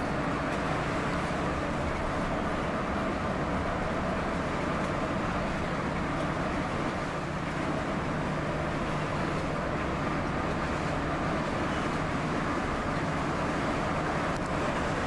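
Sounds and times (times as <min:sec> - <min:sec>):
bus engine hum: 0:00.0 - 0:15.0
road and tyre noise: 0:00.0 - 0:15.0.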